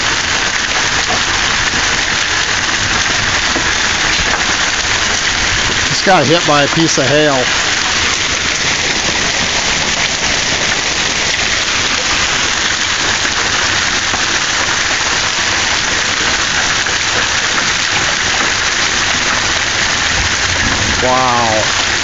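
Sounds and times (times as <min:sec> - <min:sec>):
hail and heavy rain pelting: 0:00.0 - 0:22.0.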